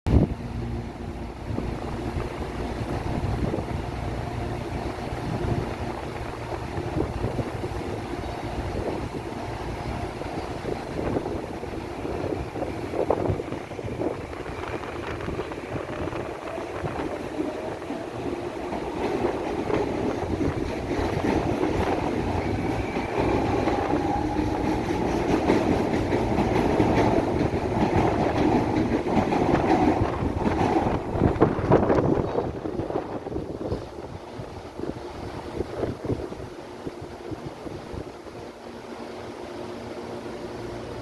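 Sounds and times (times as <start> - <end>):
train traction motors growling: 0.1 - 41.0.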